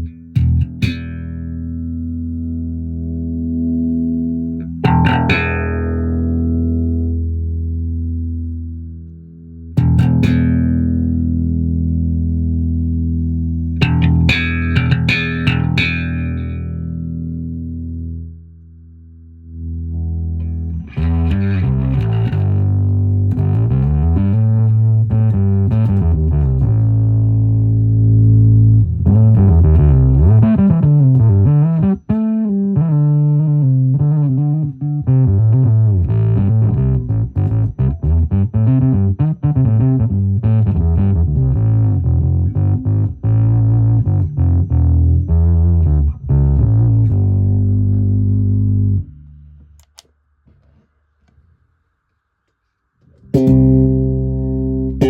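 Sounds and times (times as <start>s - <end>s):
electric bass guitar notes: 0.0s - 50.0s, 53.1s - 55.0s.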